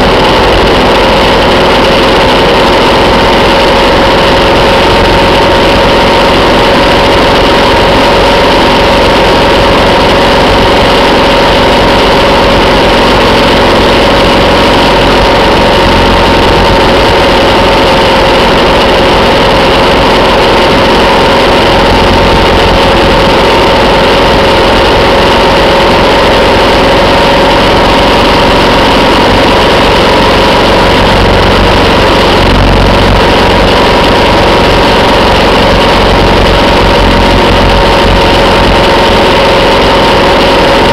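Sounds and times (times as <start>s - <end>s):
motorcycle engine cruising: 0.0s - 40.9s
wind rush on microphone: 0.0s - 40.9s.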